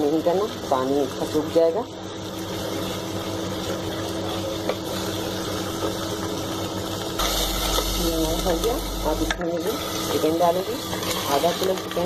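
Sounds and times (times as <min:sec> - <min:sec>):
low mechanical hum: 0:00.0 - 0:12.0
paste sizzling in hot oil: 0:00.0 - 0:12.0.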